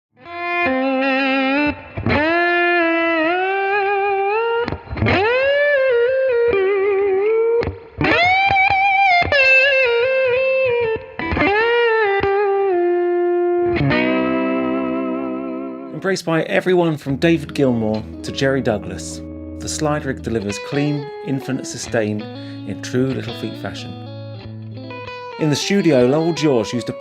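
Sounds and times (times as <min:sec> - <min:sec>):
electric slide guitar melody: 0:00.2 - 0:16.0, 0:16.8 - 0:27.0.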